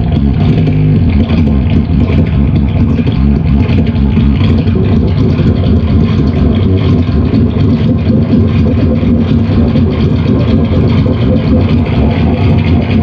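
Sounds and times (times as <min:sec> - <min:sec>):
distorted harsh noise music: 0:00.0 - 0:13.0.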